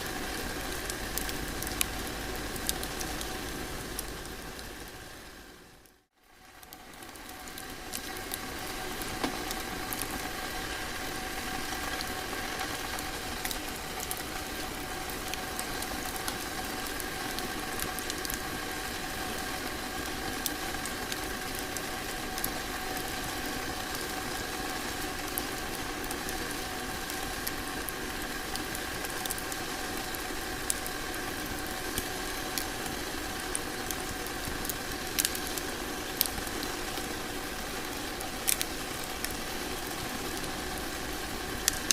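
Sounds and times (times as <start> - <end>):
faint steady hum: 0.0 - 41.9
log fire crackling and popping: 0.1 - 41.9.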